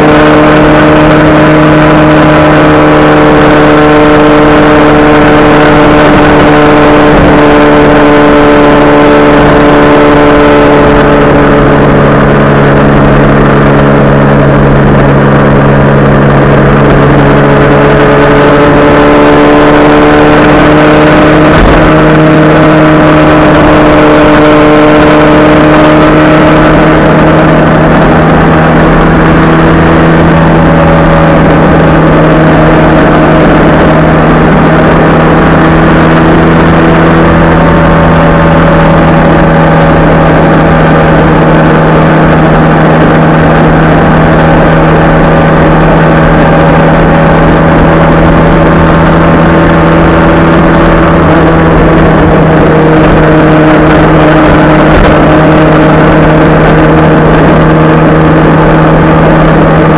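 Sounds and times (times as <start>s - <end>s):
motorcycle engine droning: 0.0s - 59.9s
wind and road noise: 0.0s - 59.9s.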